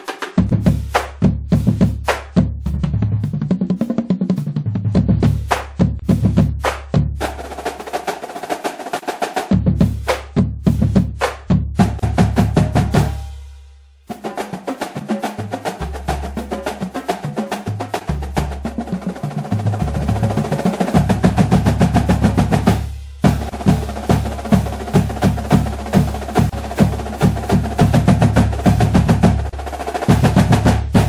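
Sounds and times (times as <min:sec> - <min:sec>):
rapid snare hits: 0:00.0 - 0:02.7, 0:03.3 - 0:13.3, 0:14.1 - 0:31.0
drum-heavy music: 0:00.0 - 0:31.0.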